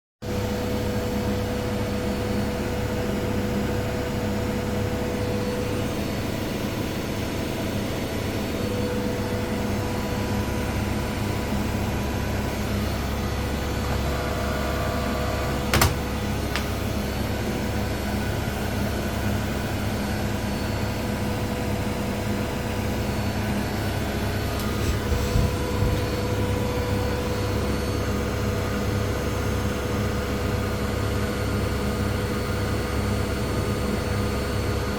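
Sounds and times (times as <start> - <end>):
washing machines spinning: 0.2 - 34.9.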